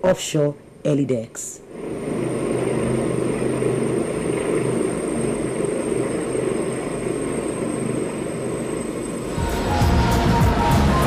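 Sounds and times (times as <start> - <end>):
thin high whine: 0.0 - 11.0
helicopter rotor and engines: 1.7 - 11.0.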